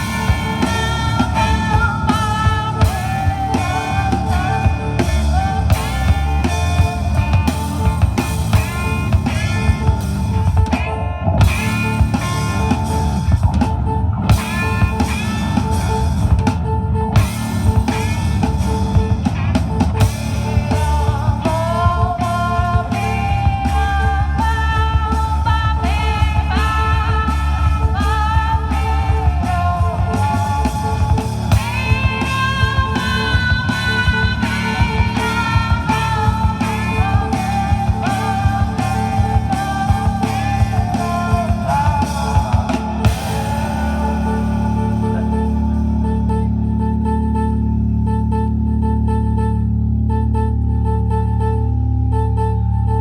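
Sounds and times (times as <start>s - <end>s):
rock band playing live: 0.0s - 46.3s.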